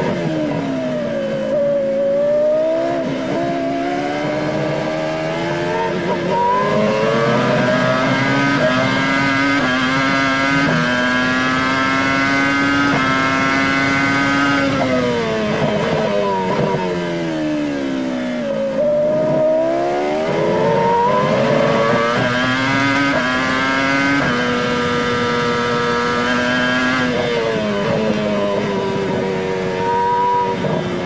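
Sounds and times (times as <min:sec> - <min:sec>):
racing car engine revving: 0:00.0 - 0:31.0.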